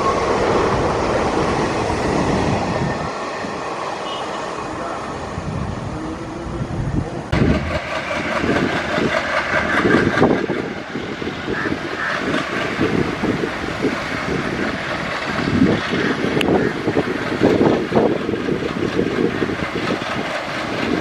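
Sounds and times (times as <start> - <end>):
wind buffeting microphone: 0.0 - 3.7, 4.6 - 21.0
train rumble: 0.0 - 21.0.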